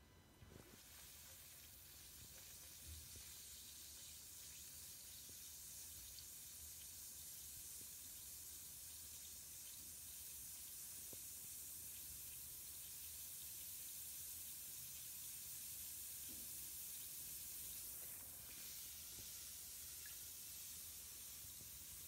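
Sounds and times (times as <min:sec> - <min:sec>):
bath bomb fizzing: 0:00.7 - 0:22.0.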